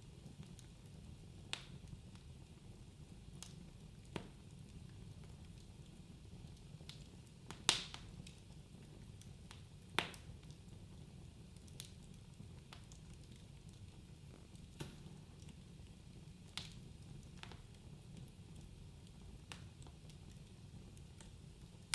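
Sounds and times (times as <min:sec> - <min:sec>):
fire crackles and pops: 0:00.0 - 0:21.9.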